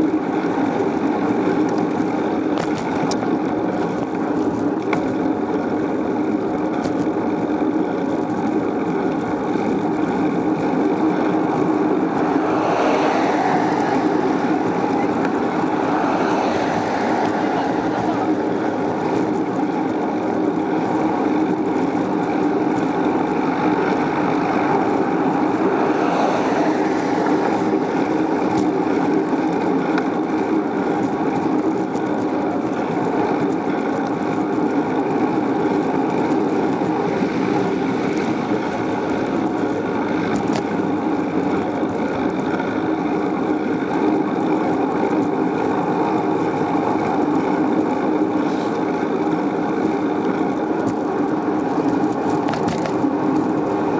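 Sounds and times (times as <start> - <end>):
bicycle rolling noise: 0.0 - 53.9
wind on microphone: 6.4 - 53.9.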